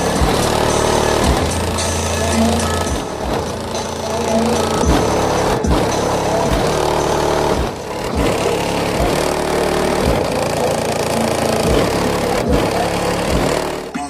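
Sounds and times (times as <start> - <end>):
loud bass-heavy electronic music: 0.0 - 14.0.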